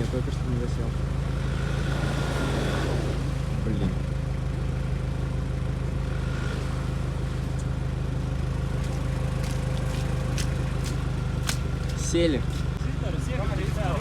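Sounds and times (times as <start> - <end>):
engine idling at low revs: 0.0 - 14.0.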